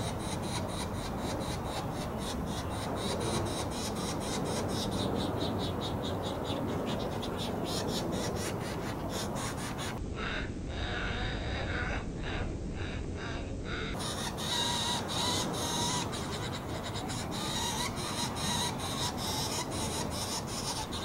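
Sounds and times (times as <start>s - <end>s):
nestlings begging calls: 0.0s - 10.0s, 13.9s - 21.0s
low background rumble: 0.0s - 21.0s.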